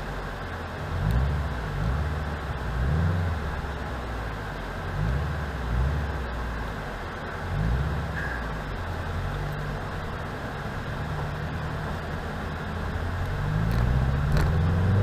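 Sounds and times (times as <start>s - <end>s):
car engine revving: 0.0s - 15.0s
road noise: 0.0s - 15.0s.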